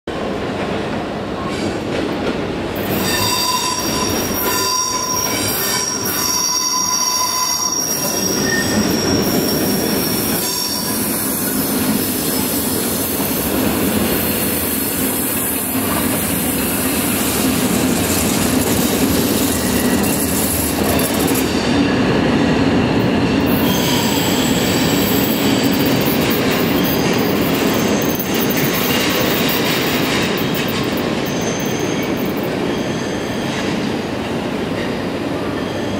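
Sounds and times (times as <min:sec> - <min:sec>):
train running noise: 0:00.1 - 0:35.9
train wheels squealing on rails: 0:02.8 - 0:35.9.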